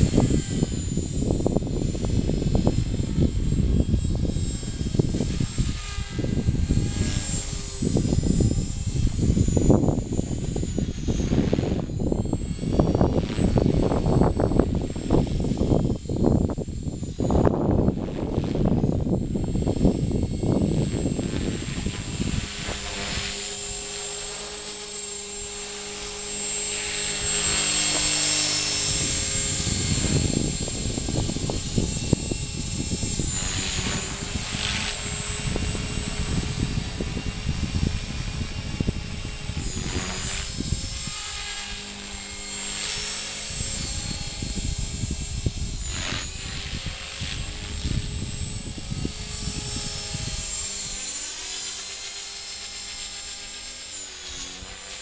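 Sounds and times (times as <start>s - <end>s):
rc helicopter rotor and motor whine: 0.0s - 55.0s
wind rumbling on microphone: 0.0s - 55.0s.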